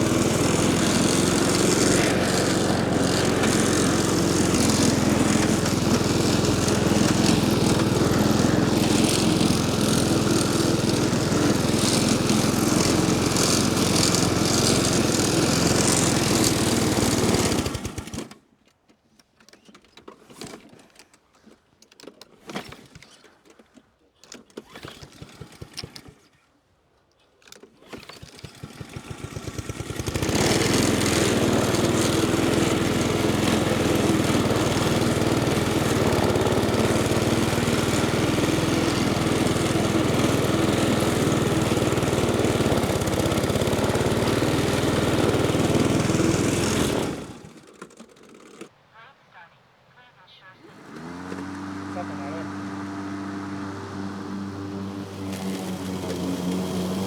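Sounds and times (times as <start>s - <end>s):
lawn mower humming: 0.0s - 18.4s, 27.9s - 48.7s, 50.6s - 57.0s.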